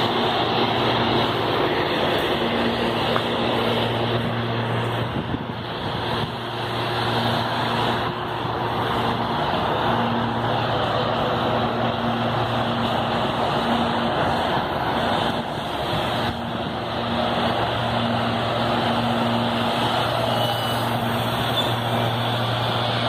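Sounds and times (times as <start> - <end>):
train rolling past: 0.0 - 23.0.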